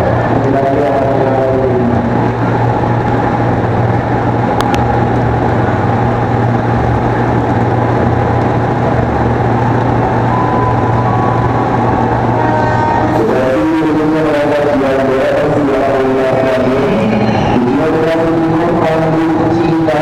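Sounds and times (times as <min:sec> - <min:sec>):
electric train rumbling by: 0:00.0 - 0:20.0
train whine: 0:00.0 - 0:20.0.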